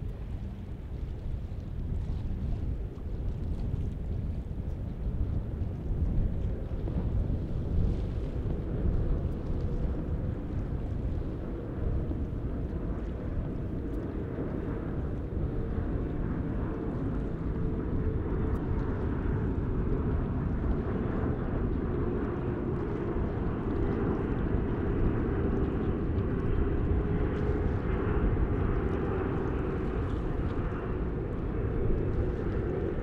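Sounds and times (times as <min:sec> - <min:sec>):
jet airliner engine rumble: 0:00.0 - 0:33.0.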